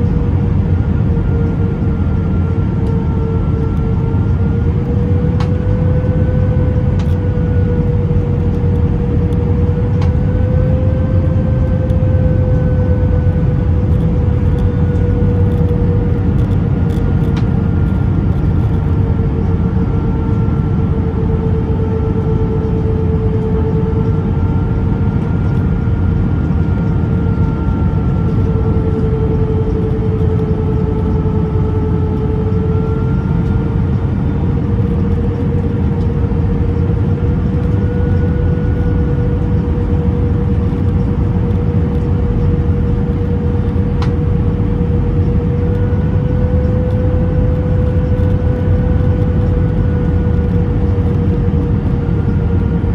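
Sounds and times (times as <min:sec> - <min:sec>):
aircraft cabin engine rumble: 0:00.0 - 0:52.9
engine hum: 0:00.0 - 0:52.9.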